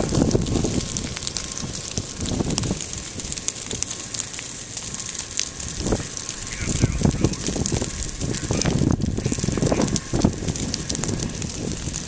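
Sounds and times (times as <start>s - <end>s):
fire crackling and popping: 0.0s - 12.0s
wind gusting on microphone: 0.0s - 12.0s.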